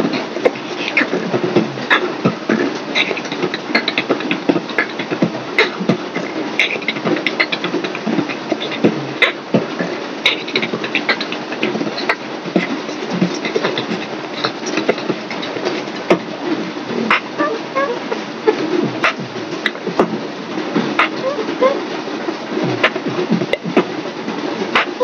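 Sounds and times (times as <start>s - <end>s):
beatboxing clicks and snares: 0.0s - 25.0s.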